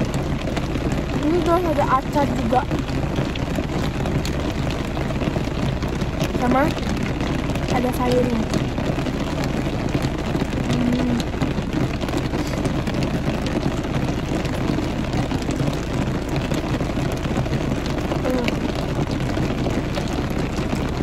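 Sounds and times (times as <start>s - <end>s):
rain on car roof: 0.0s - 21.0s.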